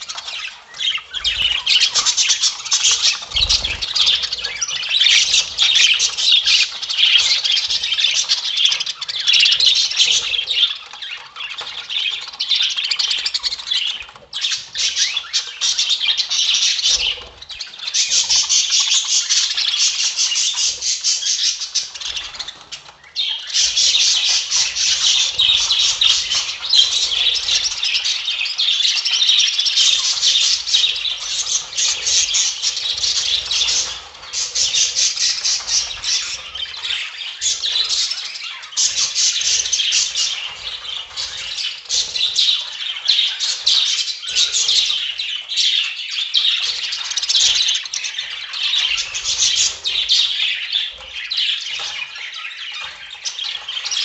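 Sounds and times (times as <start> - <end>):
flock of budgerigars chattering: 0.0 - 54.0.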